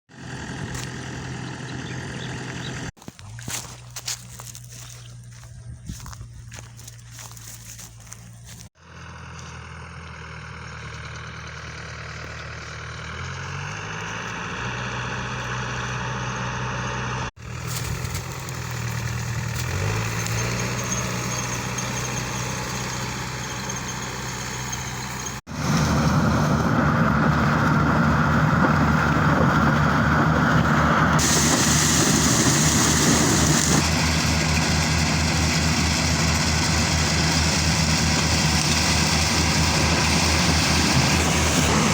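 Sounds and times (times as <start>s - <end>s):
harvester engine running: 0.1s - 41.9s.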